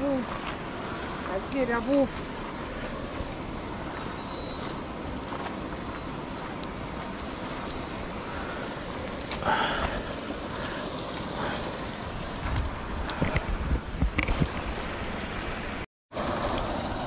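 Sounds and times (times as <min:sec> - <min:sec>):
water noise: 0:00.0 - 0:17.0
wind: 0:00.0 - 0:17.0.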